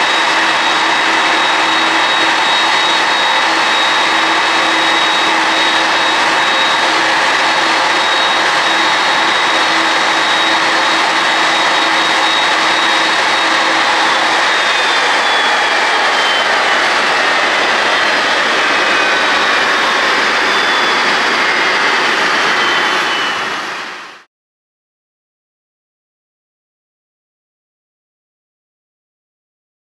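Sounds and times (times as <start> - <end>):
jet engines idling: 0.0 - 24.3.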